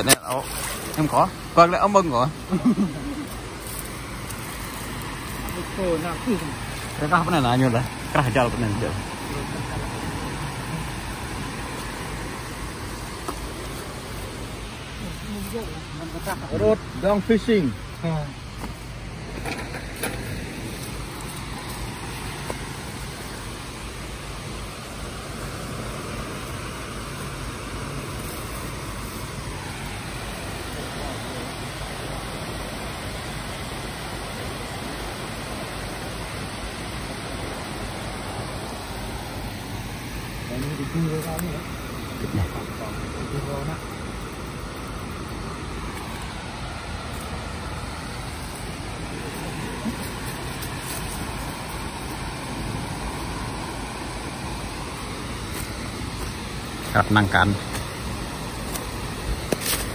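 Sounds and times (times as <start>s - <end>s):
river flowing: 0.0s - 59.9s
water rushing over spillway: 0.0s - 59.9s.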